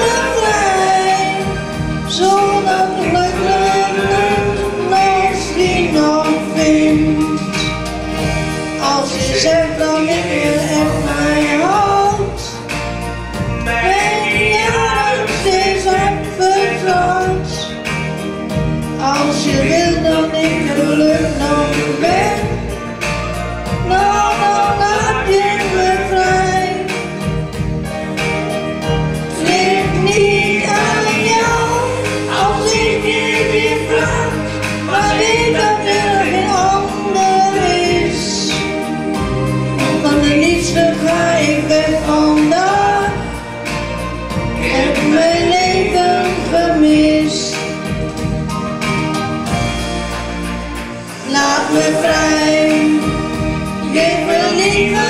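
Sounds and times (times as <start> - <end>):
woman singing into microphone: 0.0 - 7.9, 8.5 - 12.6, 13.6 - 17.8, 19.0 - 22.8, 23.7 - 27.3, 29.2 - 43.4, 44.6 - 47.9, 51.2 - 55.0
musical accompaniment with bass line: 0.0 - 55.0.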